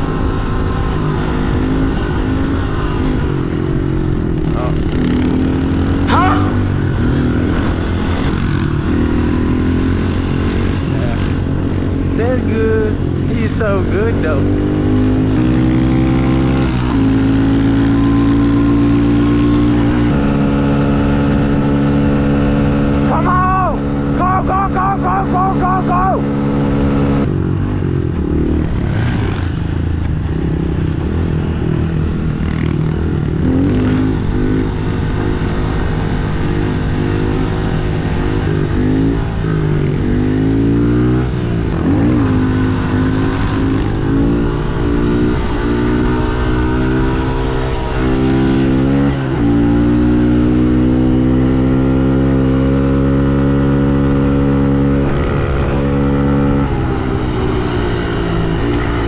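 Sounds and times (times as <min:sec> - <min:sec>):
pit bike engine revving: 0:00.0 - 0:59.0.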